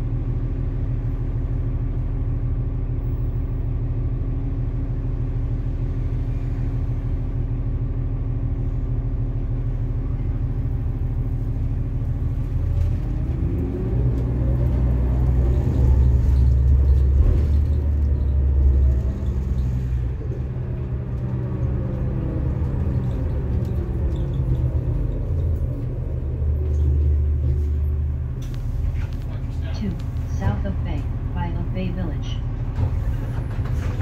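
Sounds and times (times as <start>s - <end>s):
bus drive whine: 0.0s - 34.0s
bus engine rumble: 0.0s - 34.0s.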